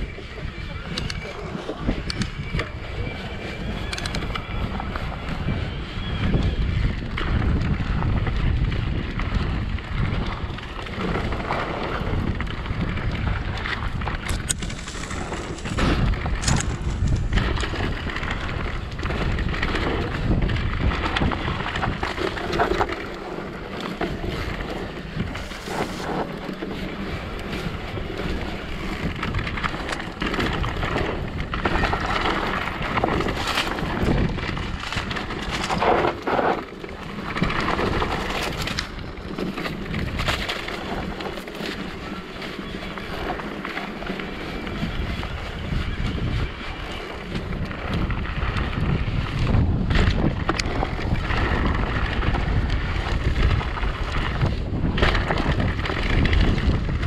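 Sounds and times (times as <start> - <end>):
bike tyres rolling over dirt: 0.0 - 57.0
wind buffeting microphone: 0.0 - 57.0.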